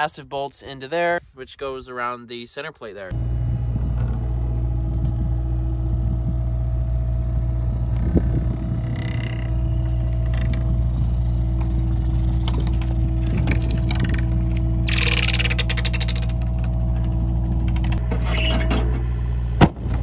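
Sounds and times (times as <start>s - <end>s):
diesel engine running: 3.1s - 20.0s.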